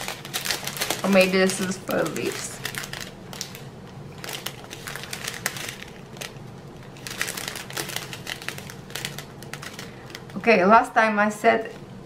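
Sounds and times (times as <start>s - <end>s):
plastic bags crinkling: 0.0s - 10.6s.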